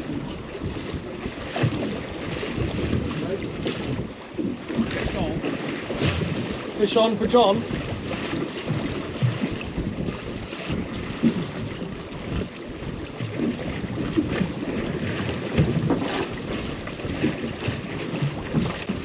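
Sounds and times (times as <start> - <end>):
water slapping against boat hull: 0.0 - 19.0
wind buffeting microphone: 0.0 - 19.0.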